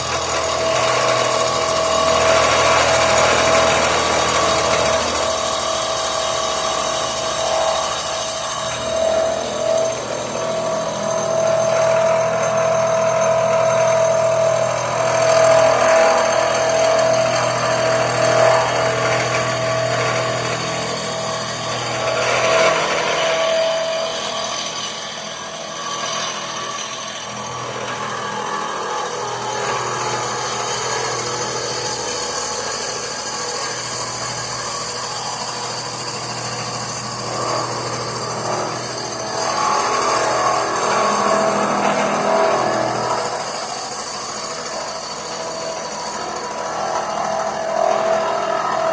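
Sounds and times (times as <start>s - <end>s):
power tool whining: 0.0s - 48.9s.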